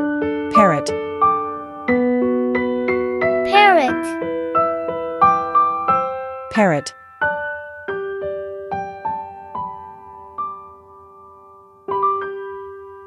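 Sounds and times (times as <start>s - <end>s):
slow piano-like melody: 0.0s - 13.0s.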